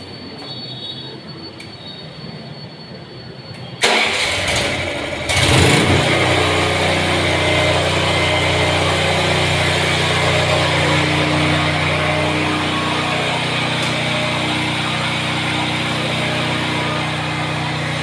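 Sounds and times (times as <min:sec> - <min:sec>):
generator engine starting and running: 0:03.4 - 0:18.0.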